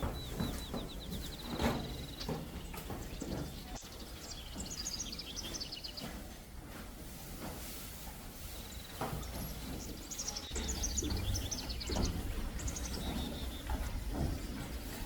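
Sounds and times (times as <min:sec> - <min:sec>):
small birds chirping: 0:00.0 - 0:06.5, 0:08.4 - 0:15.0.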